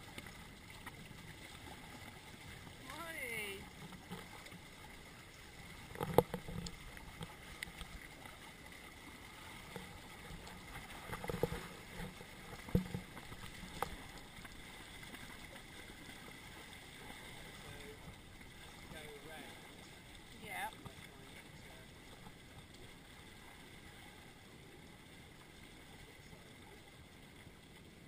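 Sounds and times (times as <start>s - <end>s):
water rushing along boat hull: 0.0s - 28.0s.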